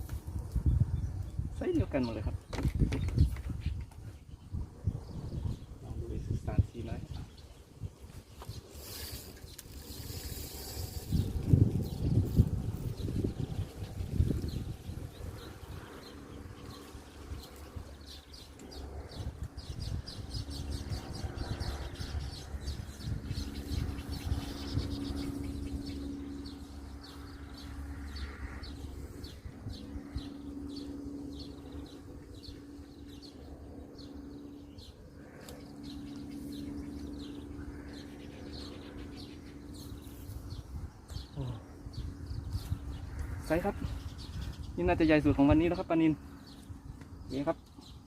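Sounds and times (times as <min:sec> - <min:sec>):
small birds chirping: 0:00.0 - 0:48.0
low steady hum: 0:03.8 - 0:48.0.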